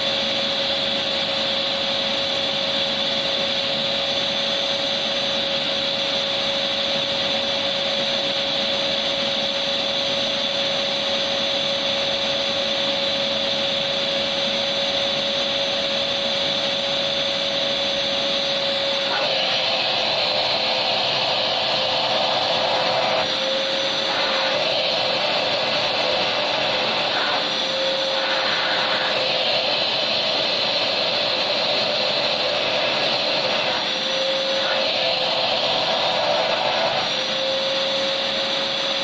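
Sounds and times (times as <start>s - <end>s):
vacuum cleaner motor running: 0.0s - 39.0s.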